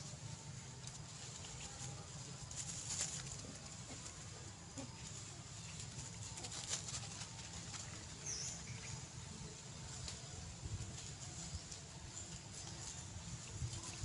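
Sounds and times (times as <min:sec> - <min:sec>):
rustling and crackles in grass: 0:00.0 - 0:14.0.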